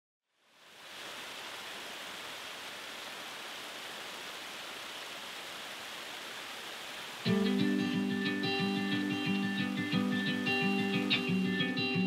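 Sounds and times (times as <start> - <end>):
waterfall rushing: 0.5 - 12.0.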